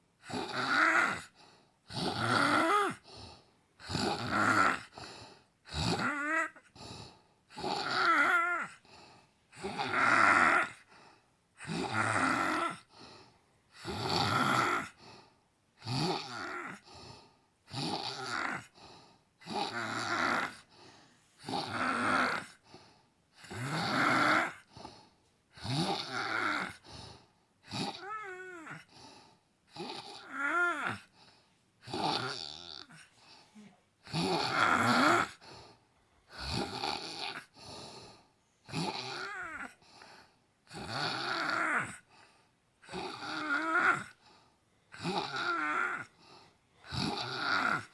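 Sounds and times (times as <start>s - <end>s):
woman snoring: 0.2s - 10.9s, 11.6s - 13.1s, 13.7s - 15.0s, 15.8s - 18.8s, 19.4s - 22.7s, 23.4s - 24.7s, 25.6s - 26.8s, 27.6s - 29.0s, 29.7s - 31.2s, 31.8s - 35.4s, 36.3s - 39.8s, 40.6s - 42.2s, 42.8s - 44.2s, 44.9s - 47.9s.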